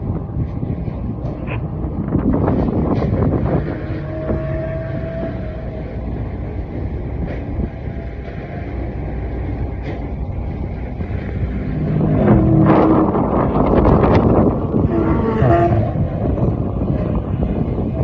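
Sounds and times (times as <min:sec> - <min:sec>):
engine rumble: 0:00.0 - 0:18.0.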